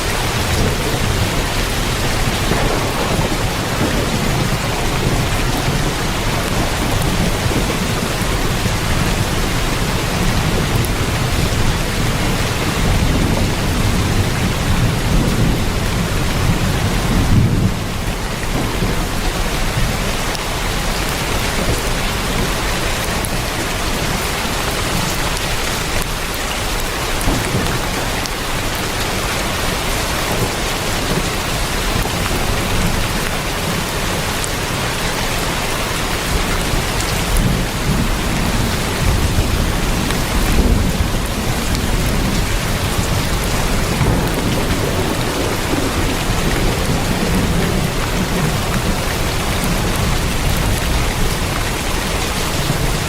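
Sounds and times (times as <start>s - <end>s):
heavy rain on a tin roof: 0.0s - 53.0s.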